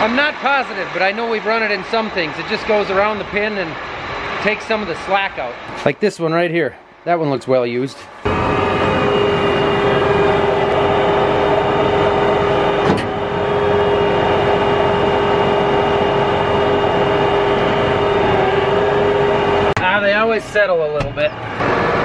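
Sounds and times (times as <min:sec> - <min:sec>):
tractor diesel engine running: 0:00.0 - 0:05.9, 0:07.9 - 0:22.0
constant whine: 0:00.0 - 0:22.0.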